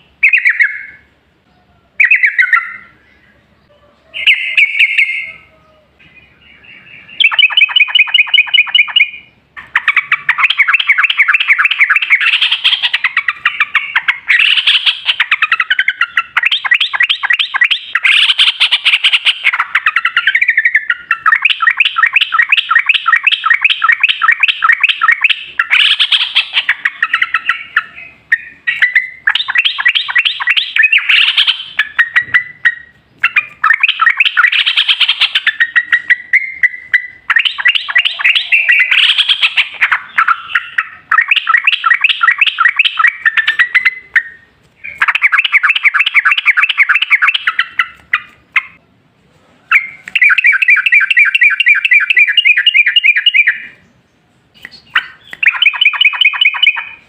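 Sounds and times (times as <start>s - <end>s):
bulbul singing rapid chirps: 0.0s - 1.1s, 2.0s - 3.3s, 4.2s - 5.5s, 6.1s - 48.8s, 49.7s - 54.0s, 54.6s - 57.0s.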